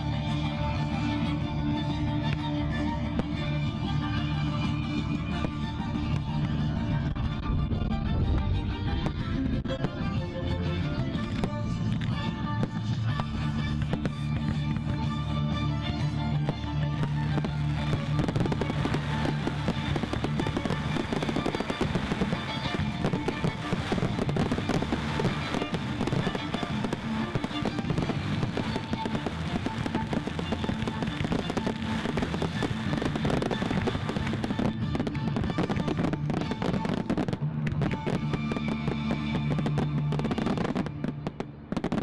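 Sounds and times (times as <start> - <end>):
fireworks bangs and crackles: 0.0 - 42.0
music: 0.0 - 42.0.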